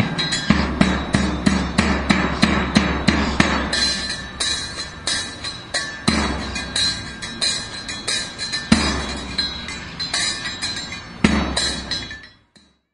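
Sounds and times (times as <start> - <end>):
drum pattern: 0.0 - 12.4.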